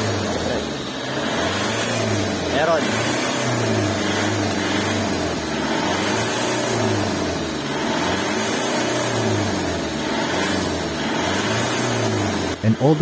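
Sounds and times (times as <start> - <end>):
diesel engine revving: 0.0 - 13.0.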